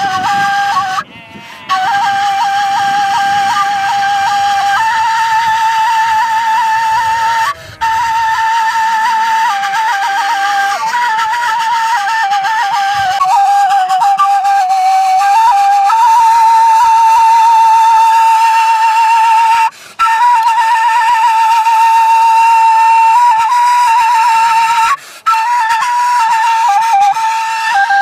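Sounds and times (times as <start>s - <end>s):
solo flute folk melody: 0.0s - 28.0s.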